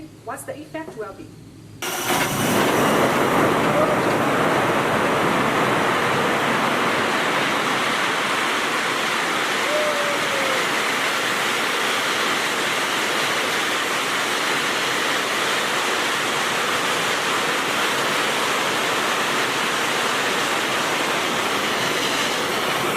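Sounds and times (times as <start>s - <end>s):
sparkler fountains hissing: 1.8s - 4.8s, 6.9s - 22.9s.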